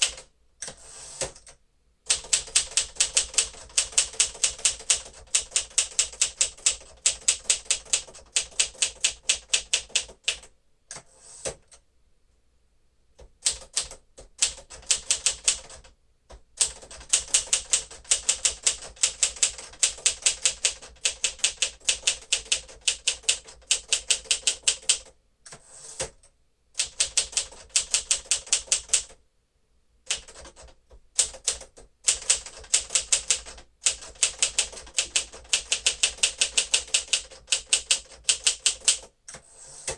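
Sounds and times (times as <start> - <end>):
manual typewriter typing: 0.0 - 11.8, 13.4 - 15.9, 16.6 - 29.2, 30.1 - 39.9.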